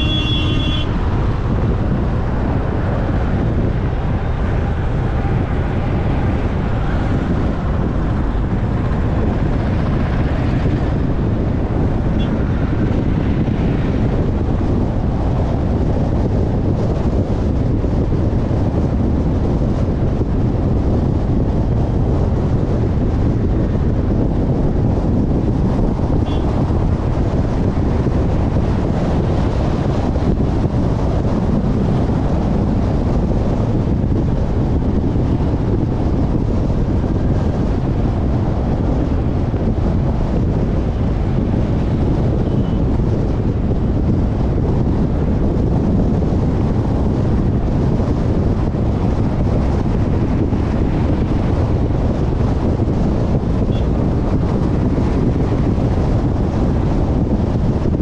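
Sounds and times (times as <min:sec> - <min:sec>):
road and tyre noise: 0:00.0 - 0:58.0
wind rumble on microphone: 0:00.0 - 0:58.0.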